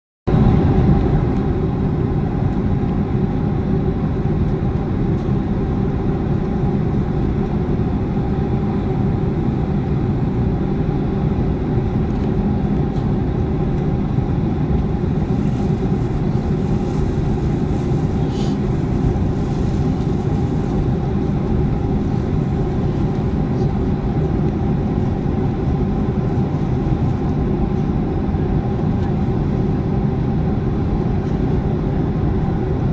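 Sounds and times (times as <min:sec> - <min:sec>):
jet engines running: 0:00.3 - 0:32.9.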